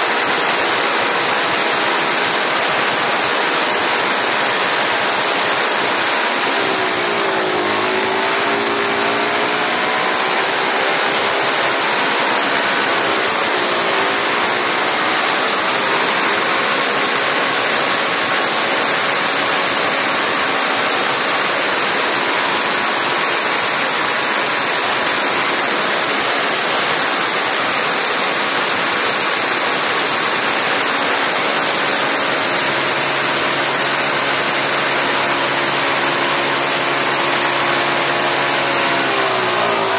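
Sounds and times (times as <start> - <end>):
lawnmower engine running flat out: 0.0 - 39.9
loud rushing hiss: 0.0 - 39.9.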